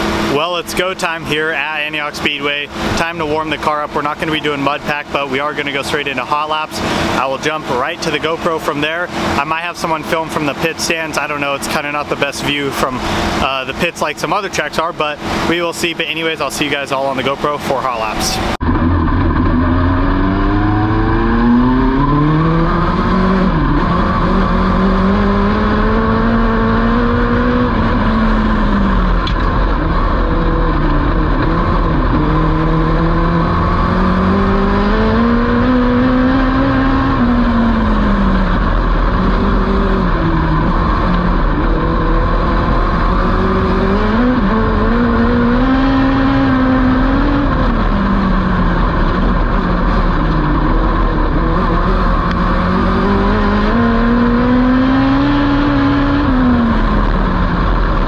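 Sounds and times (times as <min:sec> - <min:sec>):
race car engine revving: 0:00.0 - 0:58.0
rumble and rush: 0:00.0 - 0:58.0.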